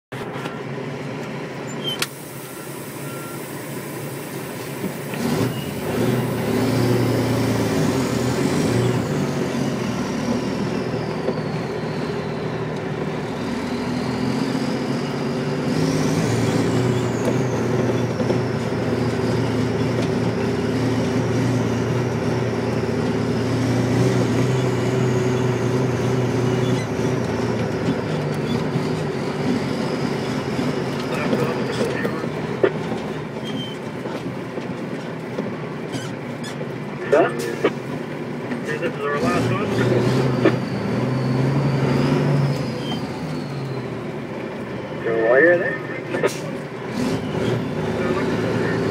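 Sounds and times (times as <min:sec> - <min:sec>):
truck engine running: 0:00.1 - 0:48.9.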